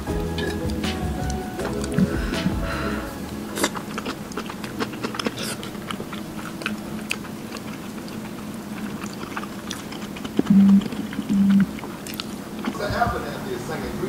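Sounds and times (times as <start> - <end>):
person chewing food: 0.0 - 12.8.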